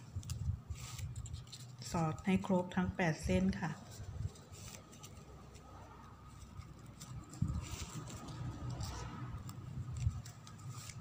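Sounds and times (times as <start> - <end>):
ribbon strips rustling and sliding: 0.0 - 2.7, 3.3 - 11.0.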